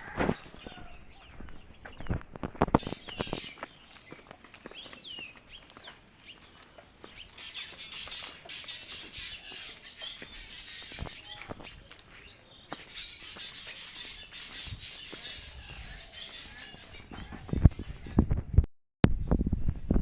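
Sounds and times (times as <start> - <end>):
birds chirping: 0.0 - 18.2.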